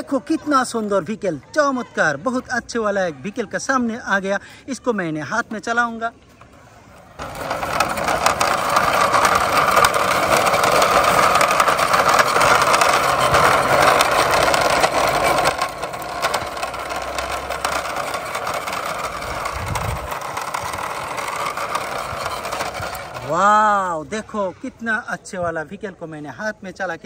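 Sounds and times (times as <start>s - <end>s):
toy car rolling on concrete: 0.0s - 25.8s.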